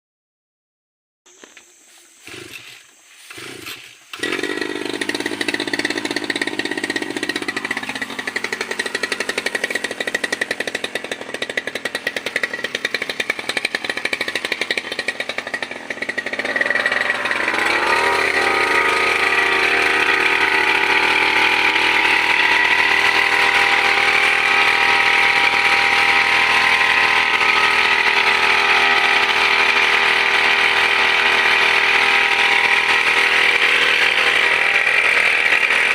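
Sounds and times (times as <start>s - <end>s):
brush cutter engine revving: 1.3s - 35.9s.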